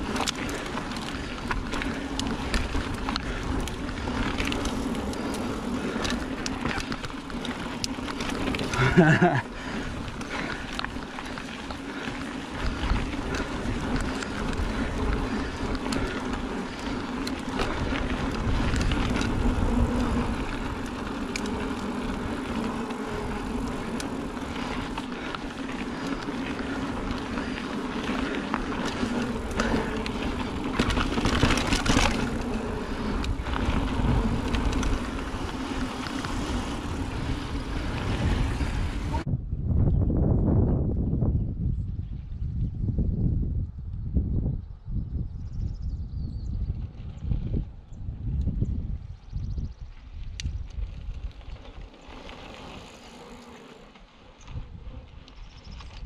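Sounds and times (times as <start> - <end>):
bike clicks and rattles: 0.0 - 40.0, 45.4 - 56.0
bike tyres humming on dirt: 0.0 - 56.0.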